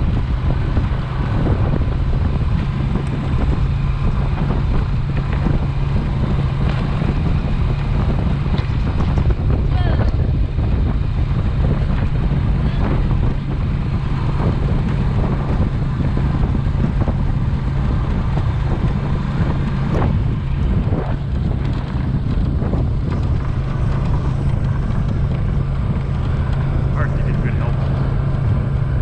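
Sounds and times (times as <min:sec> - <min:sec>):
engine humming steadily: 0:00.0 - 0:29.0
wind buffeting microphone: 0:00.0 - 0:29.0.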